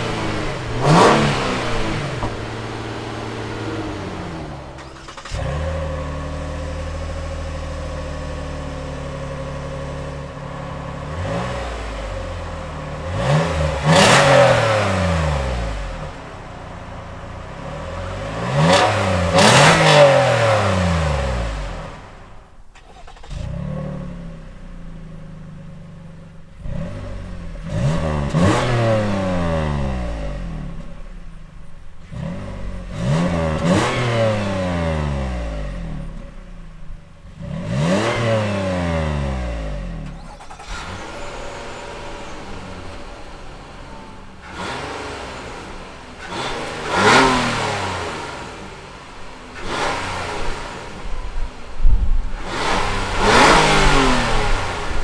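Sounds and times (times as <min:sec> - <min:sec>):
car engine idling and blipped: 0:00.0 - 0:55.0
car engine starting and revving: 0:00.0 - 0:55.0.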